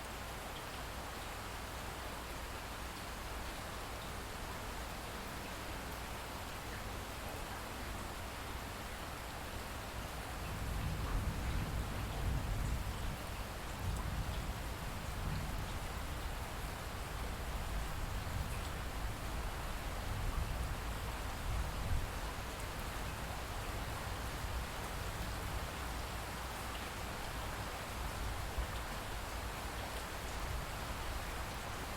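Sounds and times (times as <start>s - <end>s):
light rain and dripping: 0.0s - 31.9s.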